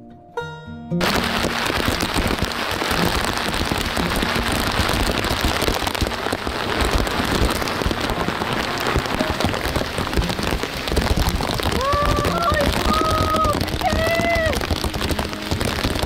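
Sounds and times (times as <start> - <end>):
heavy rain pouring: 1.0 - 16.0.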